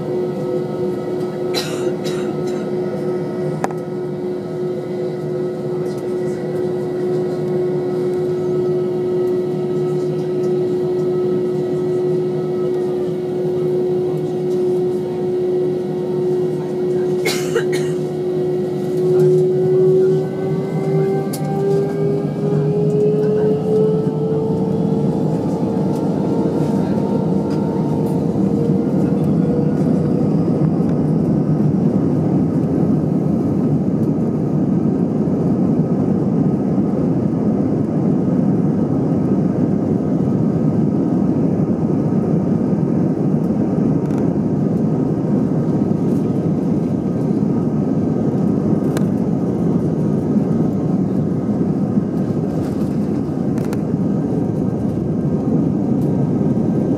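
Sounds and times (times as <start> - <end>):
jet engines at takeoff: 0.0 - 56.9.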